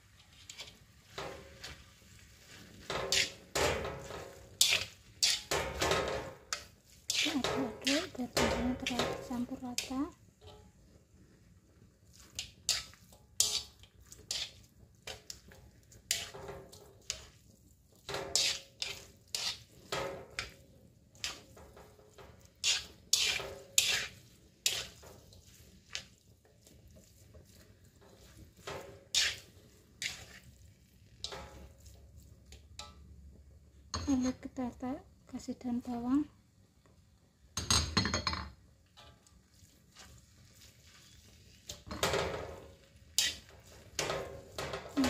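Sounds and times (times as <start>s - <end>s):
spatula scraping against a wok: 0.0s - 34.8s, 38.9s - 45.0s.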